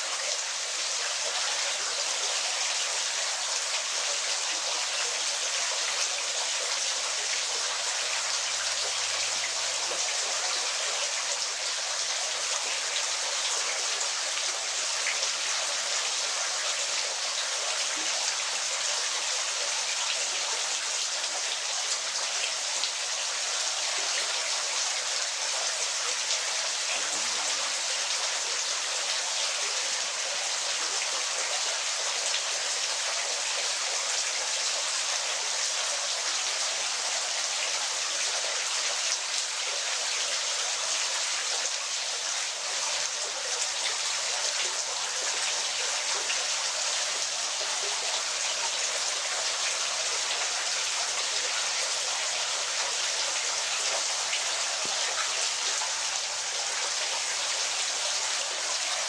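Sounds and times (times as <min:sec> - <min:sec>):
waterfall: 0:00.0 - 0:59.0.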